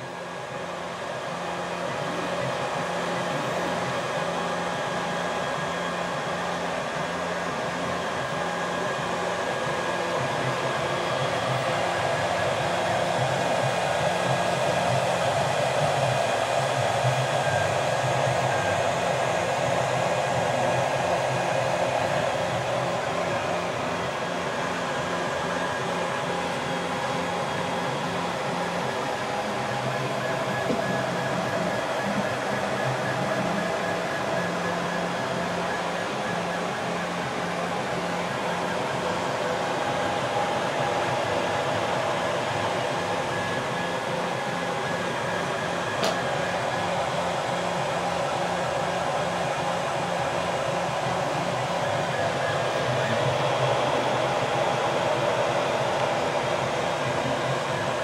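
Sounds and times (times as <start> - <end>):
cooling fans whirring: 0.0 - 58.0.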